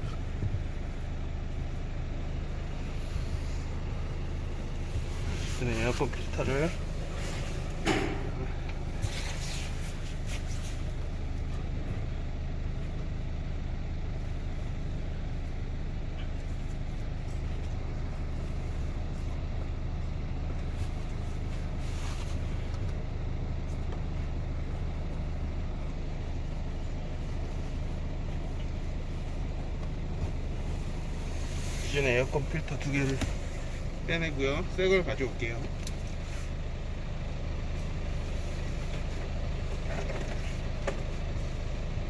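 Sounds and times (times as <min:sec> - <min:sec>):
vehicle running hum: 0:00.0 - 0:42.0.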